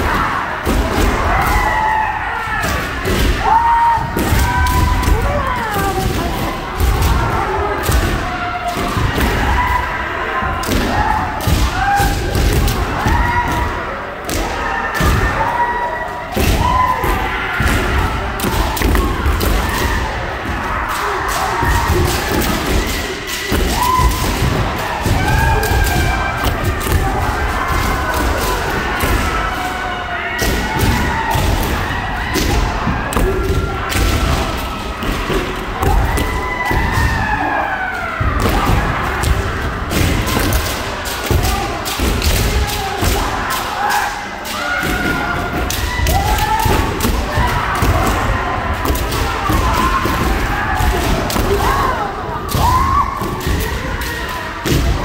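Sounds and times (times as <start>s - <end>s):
people shouting: 0.0s - 55.0s.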